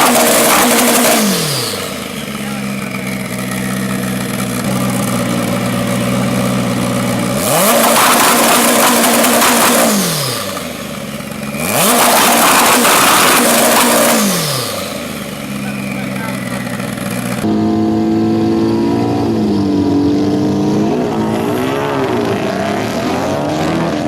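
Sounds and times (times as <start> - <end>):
engine idling: 0.0 - 21.3
engine revving hard: 0.0 - 24.0.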